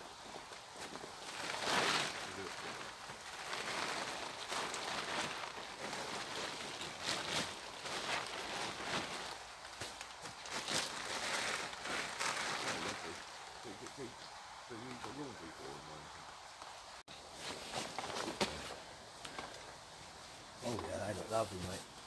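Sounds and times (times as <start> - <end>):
plastic tarpaulin rustling: 0.0 - 16.1, 16.9 - 22.0.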